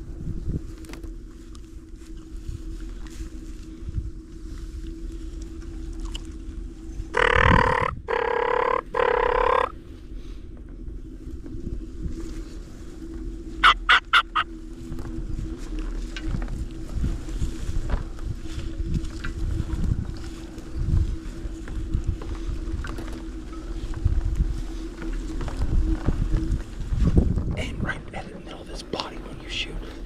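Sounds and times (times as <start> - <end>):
electric motor hum: 0.0 - 27.6
tyre and wind rumble: 0.0 - 30.0.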